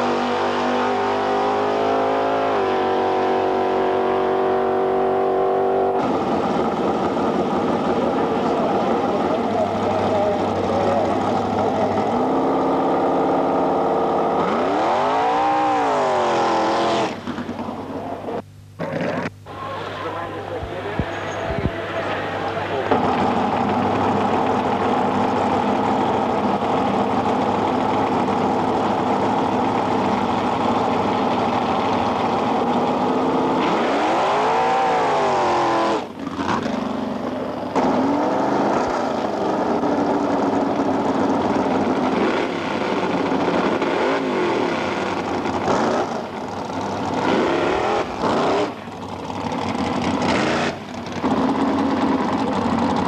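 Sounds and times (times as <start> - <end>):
drag racing car engine revving: 0.0 - 53.0.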